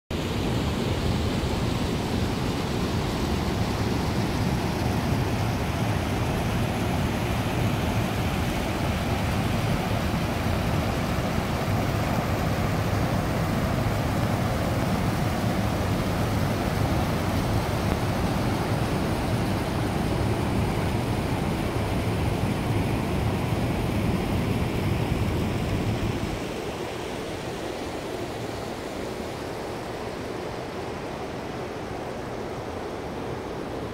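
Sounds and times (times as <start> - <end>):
waterfall roar: 0.2 - 33.9.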